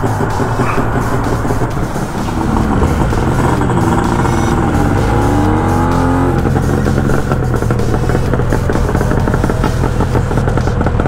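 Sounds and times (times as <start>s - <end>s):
motorcycle engine accelerating: 0.0s - 11.0s
wind rumble: 0.0s - 11.0s.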